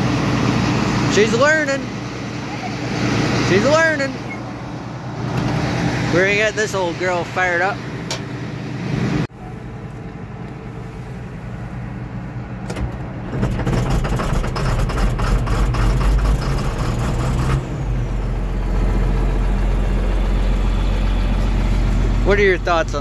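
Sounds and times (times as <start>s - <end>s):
diesel tractor engine starting: 0.0s - 23.0s.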